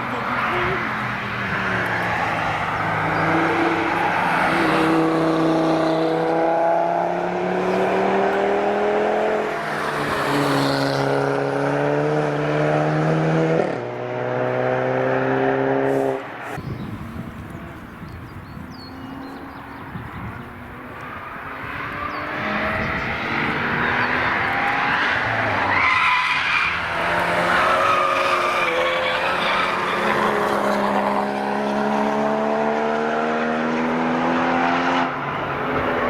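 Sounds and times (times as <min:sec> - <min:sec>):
car engine accelerating hard: 0:01.5 - 0:36.0.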